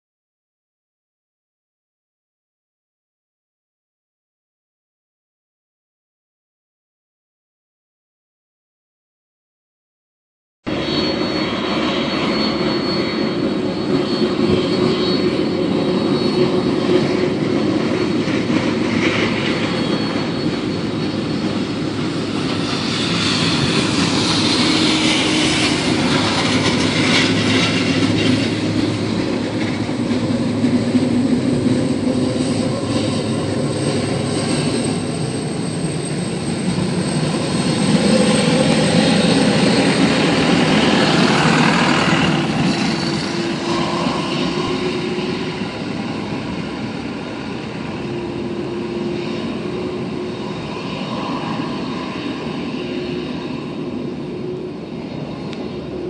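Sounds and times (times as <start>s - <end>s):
jet engines rumbling with whine: 10.7s - 56.0s.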